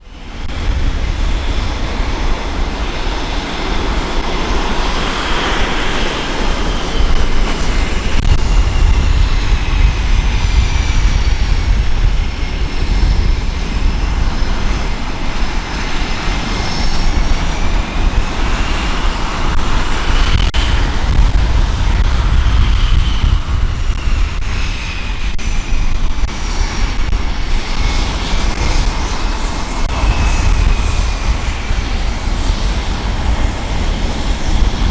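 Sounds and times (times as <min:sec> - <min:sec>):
fighter jet engines roaring: 0:00.0 - 0:34.9.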